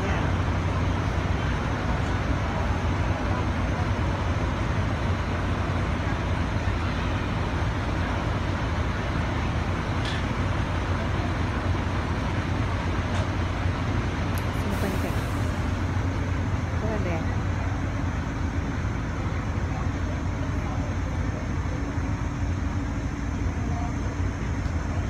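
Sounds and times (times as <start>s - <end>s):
bus engines idling: 0.0s - 25.0s.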